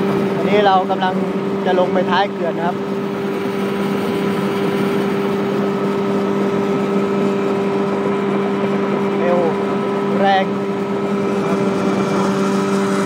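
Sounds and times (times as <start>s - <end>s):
small boat engine running: 0.0s - 13.0s
water and wind rushing: 0.0s - 13.0s.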